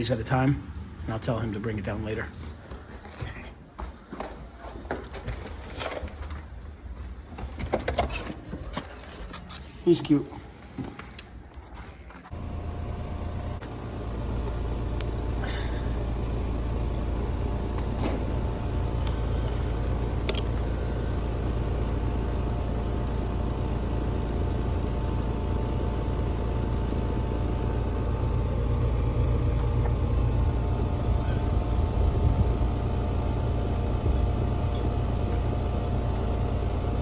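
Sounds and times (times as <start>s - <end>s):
air conditioner compressor and fan hum: 0.0s - 37.0s.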